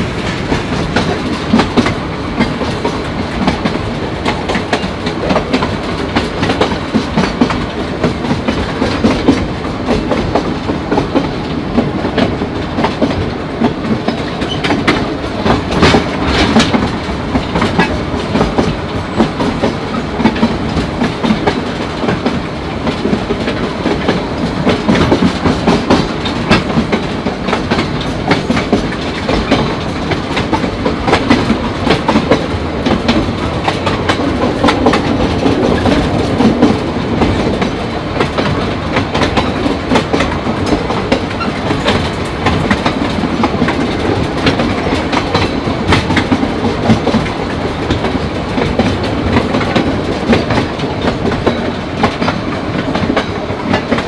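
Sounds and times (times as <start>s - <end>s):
train running rumble: 0.0s - 54.0s
wheels clicking over rail joints: 0.0s - 54.0s.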